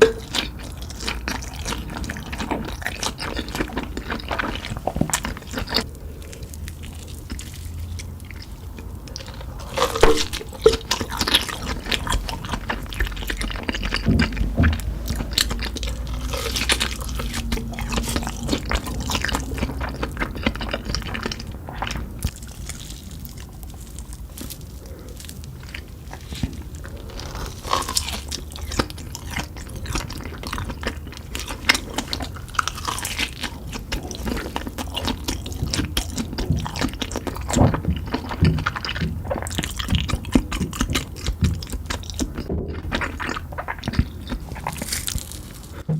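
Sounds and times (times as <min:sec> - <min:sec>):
chewing and crunching: 0:00.0 - 0:45.9.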